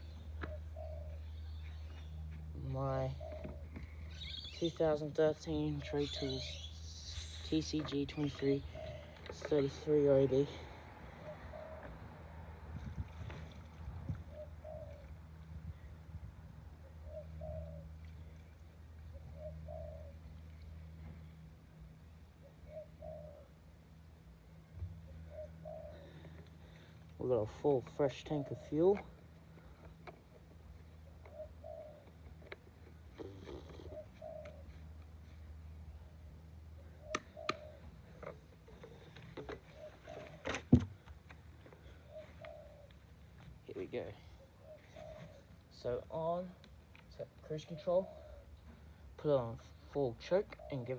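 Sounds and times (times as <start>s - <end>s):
dove cooing: 0.0s - 5.0s, 5.6s - 24.0s, 24.7s - 46.6s, 47.5s - 49.1s, 49.7s - 50.9s
low steady hum: 0.0s - 50.9s.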